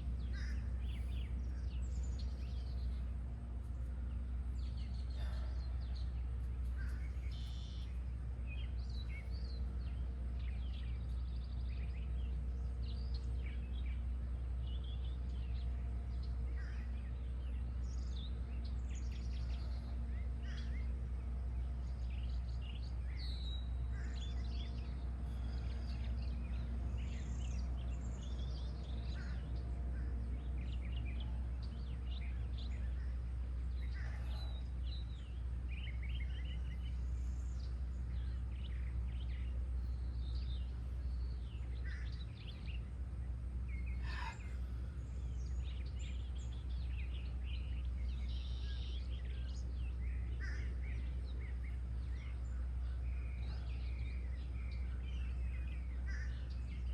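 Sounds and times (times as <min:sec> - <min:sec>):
birds chirping and trilling: 0:00.0 - 0:56.9.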